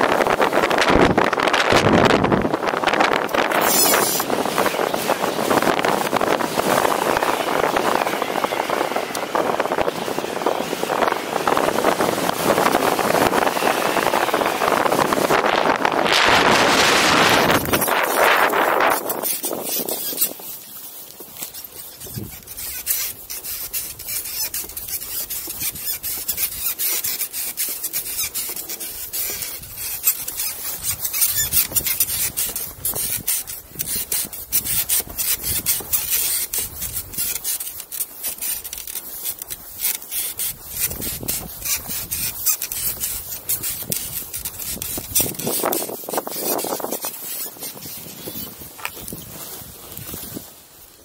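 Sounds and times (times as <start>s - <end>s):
scratchy rubbing on microphone: 0.1s - 51.0s.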